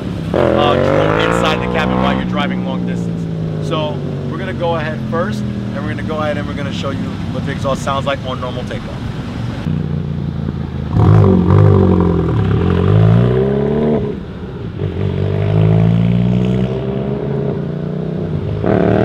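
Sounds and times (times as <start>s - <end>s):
car exhaust pulling away: 0.0s - 7.6s, 9.6s - 19.0s.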